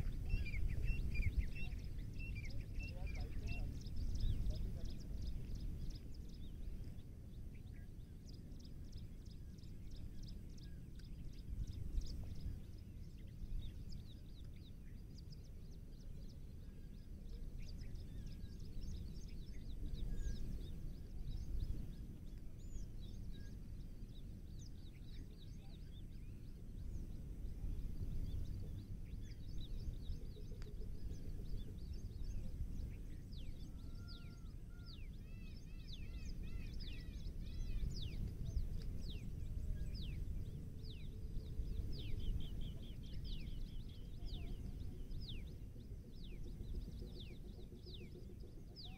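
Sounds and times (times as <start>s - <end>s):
birds chirping: 0.0s - 48.9s
steady low rumble: 0.0s - 48.9s.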